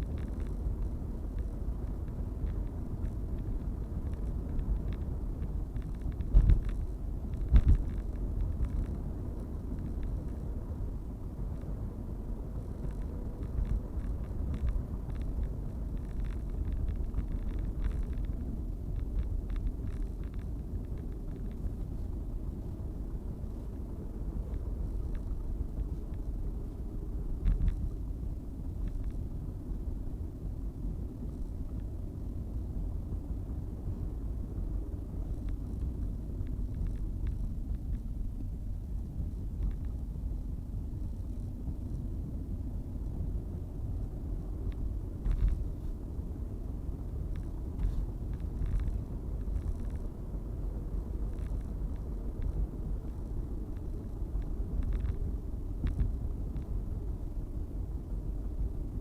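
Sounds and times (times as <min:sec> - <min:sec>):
faint clicks and ticks: 0:00.0 - 0:59.0
steady low rumble: 0:00.0 - 0:59.0.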